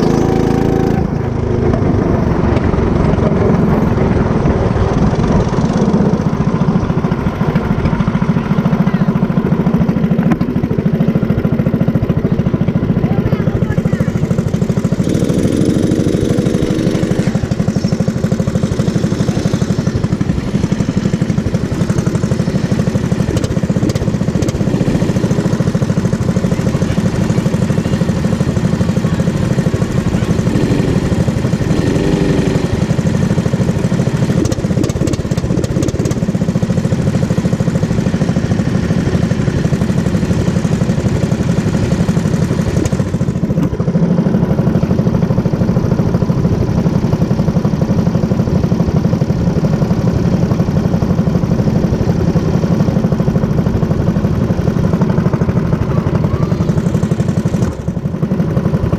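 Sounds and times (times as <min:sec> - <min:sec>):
go-kart engine running: 0:00.0 - 0:58.9.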